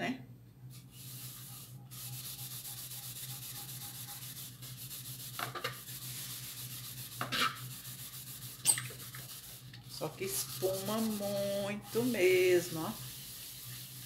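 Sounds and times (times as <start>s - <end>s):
steel wool scrubbing metal lid: 1.2s - 14.0s.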